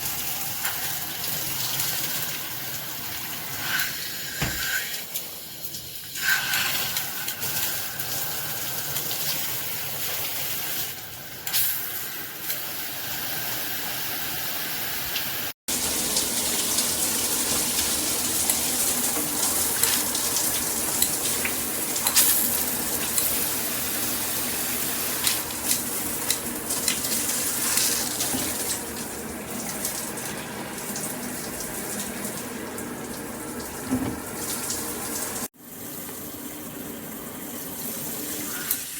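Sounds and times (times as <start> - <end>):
shower water spraying: 0.1 - 35.5.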